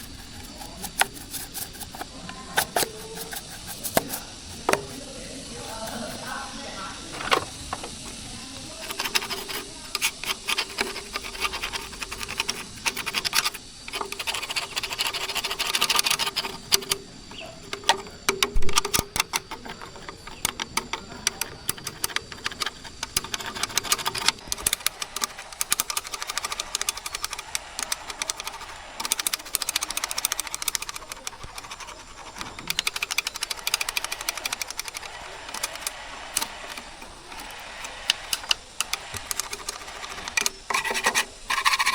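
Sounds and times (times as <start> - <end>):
faint steady hum: 0.0 - 41.9
hand tools clicking and rattling: 0.0 - 41.9.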